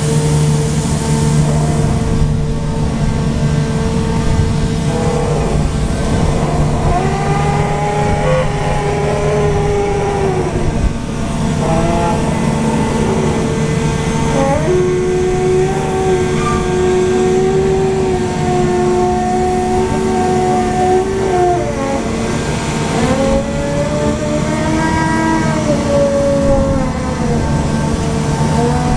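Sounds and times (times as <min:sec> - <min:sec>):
diesel engine and hydraulics humming: 0:00.0 - 0:28.9
long gliding whining tones: 0:00.0 - 0:28.9.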